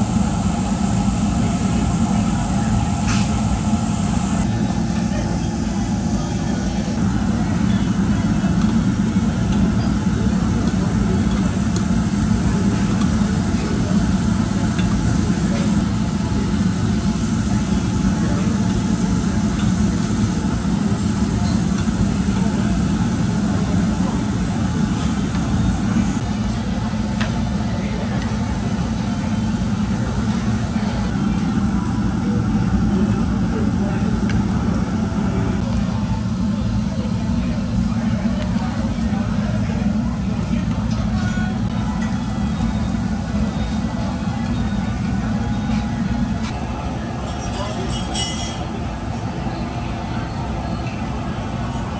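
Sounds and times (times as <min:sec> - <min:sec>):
exhaust fan low rumble: 0:00.0 - 0:51.9.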